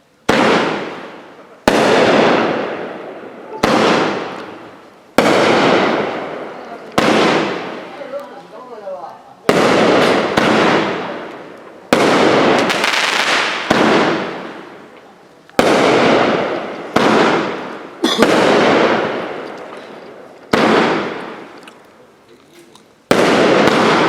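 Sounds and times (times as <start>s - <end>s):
fireworks bangs: 0.0s - 22.1s, 23.0s - 24.0s.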